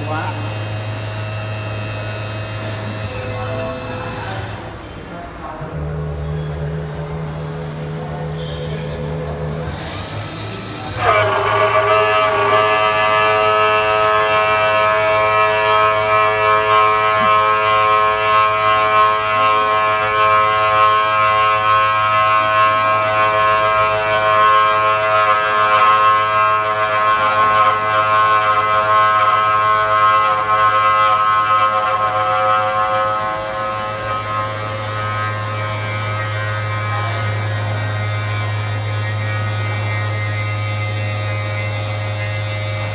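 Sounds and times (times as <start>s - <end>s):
spindle motor electric whine: 0.0s - 5.0s, 9.2s - 42.9s.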